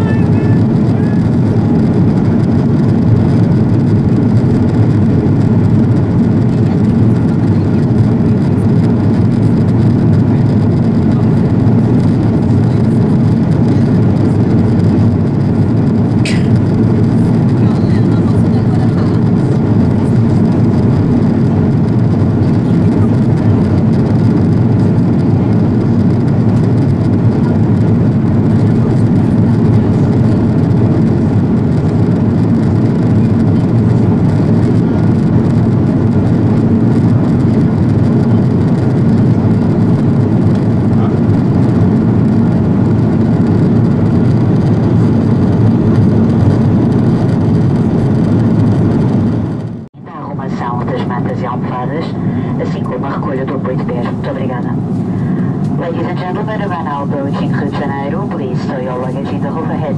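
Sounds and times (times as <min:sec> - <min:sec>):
airliner cabin noise: 0:00.0 - 0:59.9.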